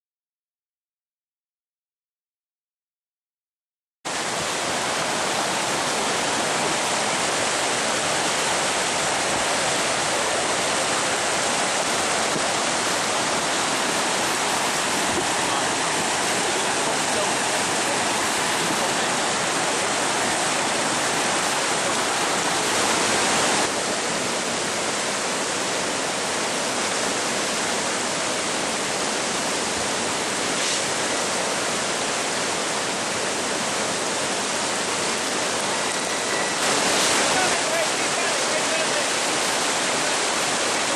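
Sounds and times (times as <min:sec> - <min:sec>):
river rapids roaring: 0:04.1 - 0:40.9.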